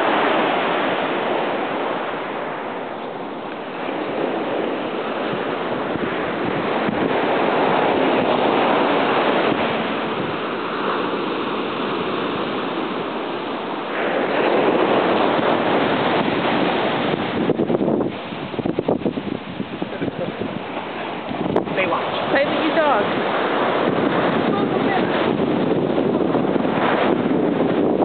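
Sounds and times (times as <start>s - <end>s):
ocean surf rushing: 0.0s - 28.0s
wind on microphone: 0.0s - 28.0s.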